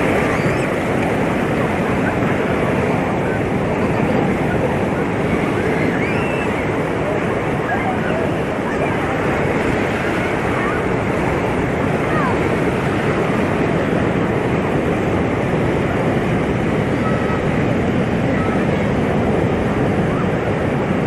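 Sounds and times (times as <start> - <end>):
waves breaking: 0.0 - 21.0.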